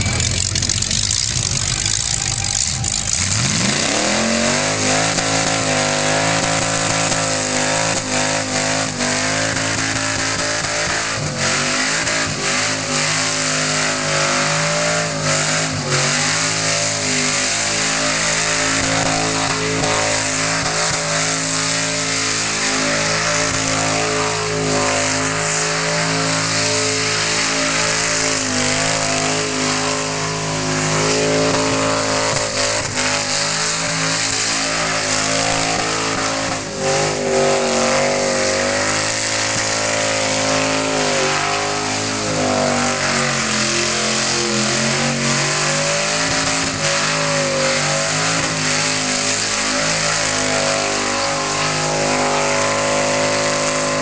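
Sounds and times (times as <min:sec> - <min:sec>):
engine at high revs: 0:00.0 - 0:54.0
tyres spinning: 0:00.0 - 0:54.0.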